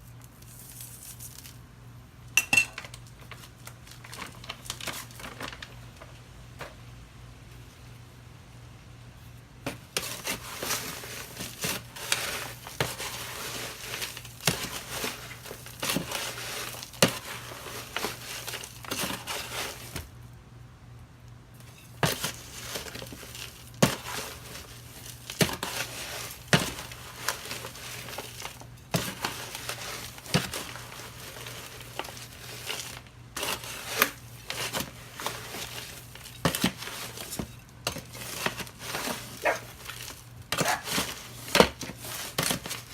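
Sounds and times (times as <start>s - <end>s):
crinkling and rustling: 2.5s - 6.8s, 9.6s - 20.3s, 21.2s - 42.9s.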